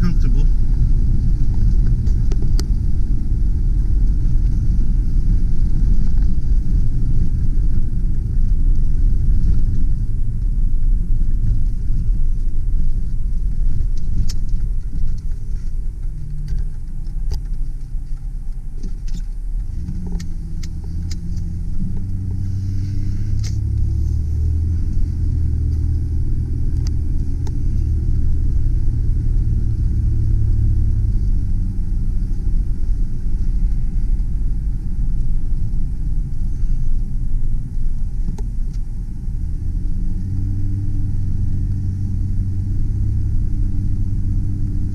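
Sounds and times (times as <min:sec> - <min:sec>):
road and engine rumble: 0:00.0 - 0:44.9.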